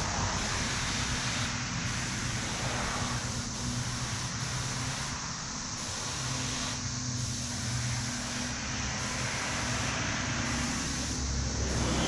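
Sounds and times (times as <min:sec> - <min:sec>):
spray gun air hiss: 0:00.0 - 0:12.0.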